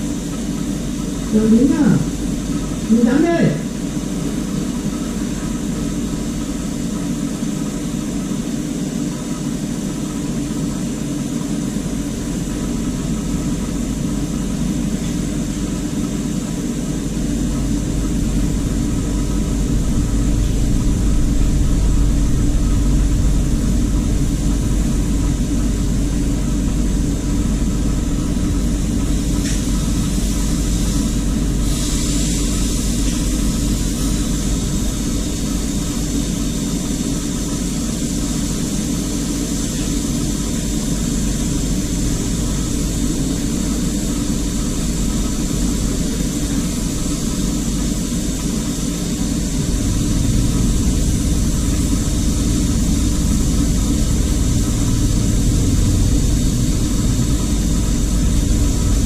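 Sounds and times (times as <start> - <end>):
brazing torch flame hissing: 11.3 - 59.0.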